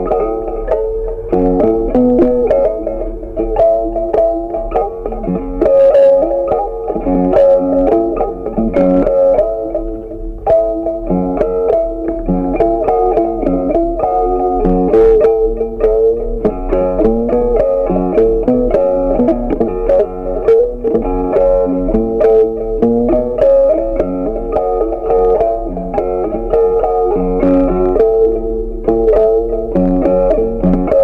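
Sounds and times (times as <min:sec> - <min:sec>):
plucked guitar instrumental music: 0:00.0 - 0:31.0.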